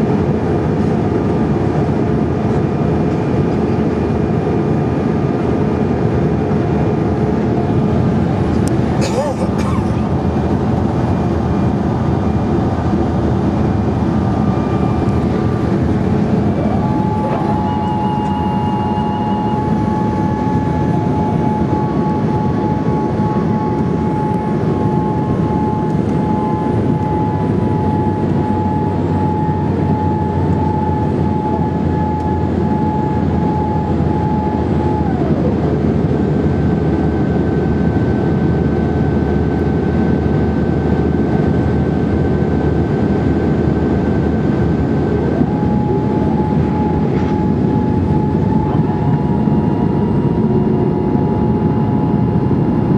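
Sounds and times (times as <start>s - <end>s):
airplane cabin roar: 0.0s - 52.9s
engine whine sliding in pitch: 7.3s - 41.5s, 42.8s - 52.9s.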